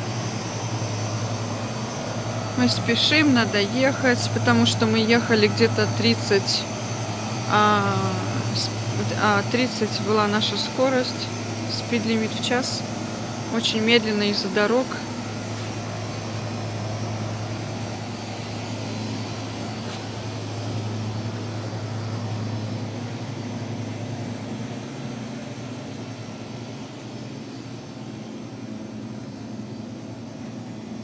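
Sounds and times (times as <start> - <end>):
low mechanical hum: 0.0 - 31.0
noisy background: 0.0 - 31.0.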